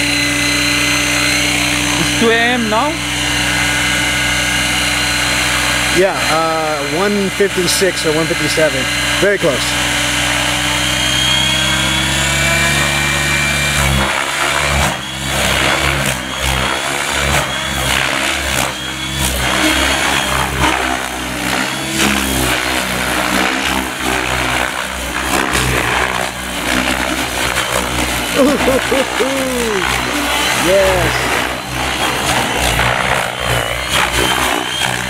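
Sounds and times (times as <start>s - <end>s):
rc helicopter rotor whoosh: 0.0s - 35.0s.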